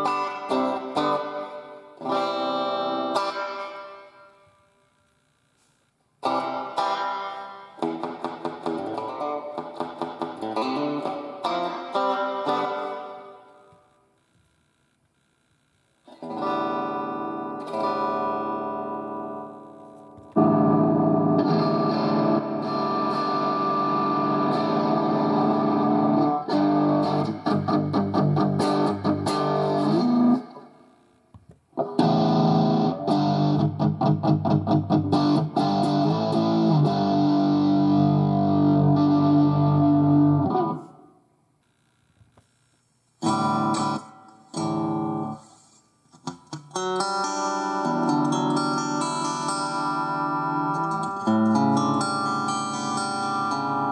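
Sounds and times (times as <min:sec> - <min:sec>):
distorted electric guitar: 0:00.0 - 0:42.4, 0:43.2 - 0:53.9.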